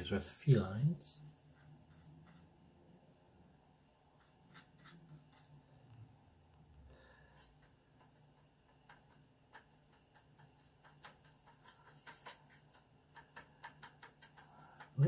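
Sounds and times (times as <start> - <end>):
paintbrush clicking and scrubbing: 0.6 - 15.0.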